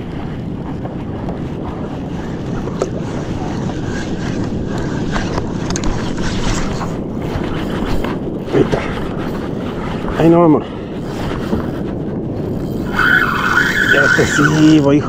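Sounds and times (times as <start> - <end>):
water lapping around kayak: 0.0 - 13.1
wind buffeting microphone: 0.0 - 15.0.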